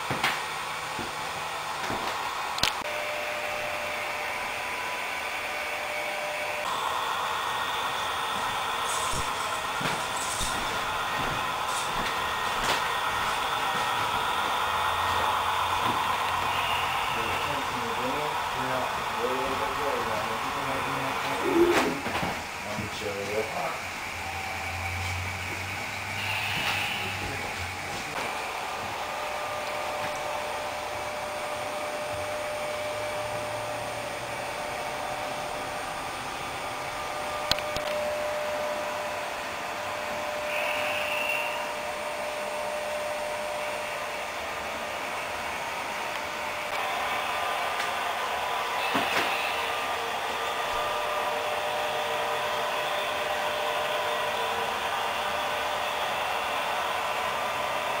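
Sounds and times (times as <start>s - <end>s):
mechanical whirring hum: 0.0s - 58.0s.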